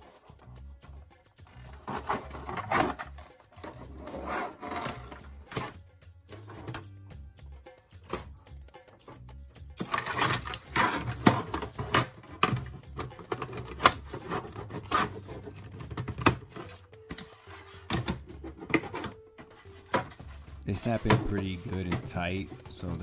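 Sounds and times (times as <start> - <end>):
light background music: 0.0 - 23.0.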